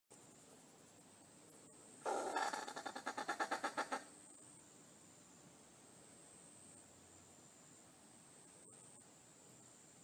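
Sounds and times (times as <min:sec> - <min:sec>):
faint background hiss: 0:00.1 - 0:10.0.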